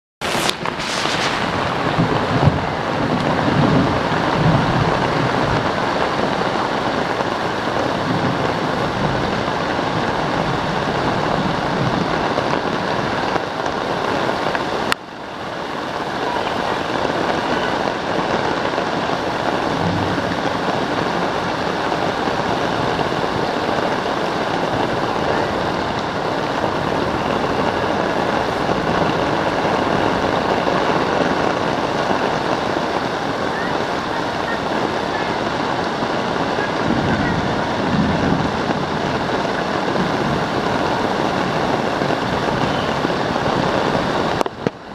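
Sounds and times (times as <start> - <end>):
heavy rain falling: 0.2 - 44.9.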